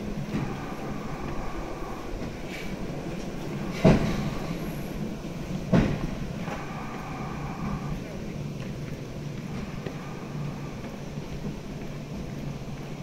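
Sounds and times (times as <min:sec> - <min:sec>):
cable car rumbling on rails: 0:00.0 - 0:13.0.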